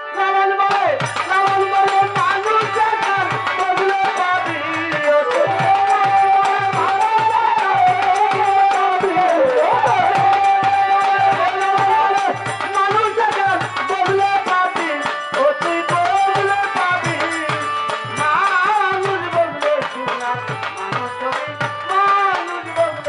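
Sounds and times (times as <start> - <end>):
man singing into a microphone: 0.0 - 23.0
drum beat: 0.7 - 23.0.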